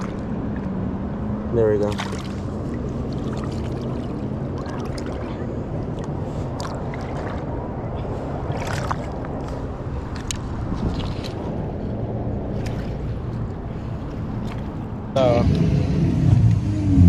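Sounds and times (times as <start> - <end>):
low hum: 0.0 - 17.0
shallow river water rushing: 0.0 - 17.0.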